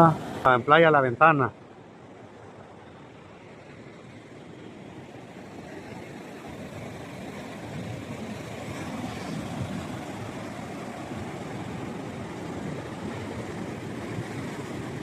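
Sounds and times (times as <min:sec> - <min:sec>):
seashore rushing: 0:02.3 - 0:15.0.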